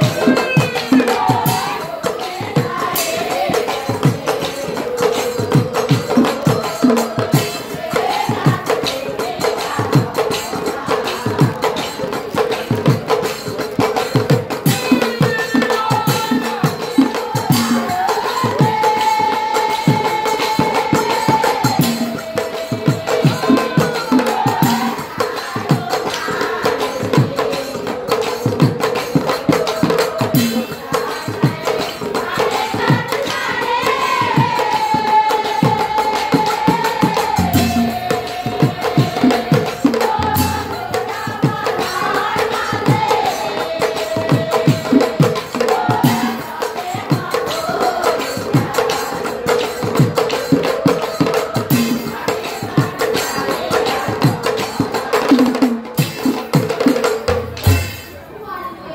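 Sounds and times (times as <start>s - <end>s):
woman singing devotional song: 0.0s - 57.2s
drums beating: 0.0s - 58.4s
jingling cymbals: 0.0s - 58.9s.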